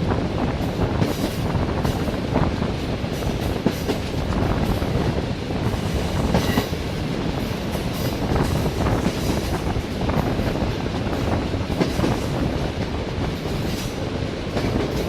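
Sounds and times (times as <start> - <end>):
clickety-clack over rail joints: 0.0 - 15.0
train wheels rumbling on track: 0.0 - 15.0.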